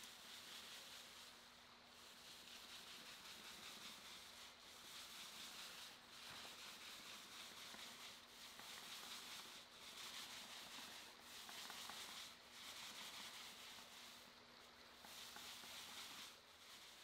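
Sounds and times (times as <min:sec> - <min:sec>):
paint roller rubbing on concrete: 0:00.0 - 0:17.0.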